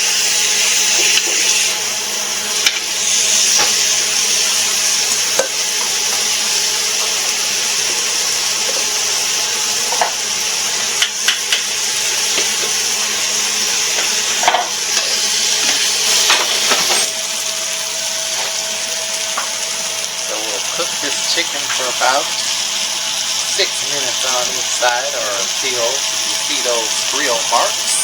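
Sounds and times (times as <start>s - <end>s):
chicken sizzling on a grill: 0.0s - 28.0s.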